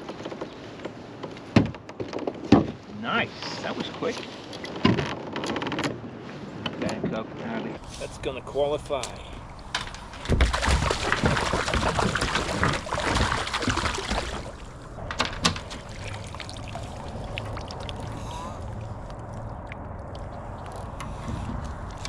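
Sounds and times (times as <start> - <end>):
water splashing around kayak: 0.0 - 22.0
water lapping: 2.4 - 22.0.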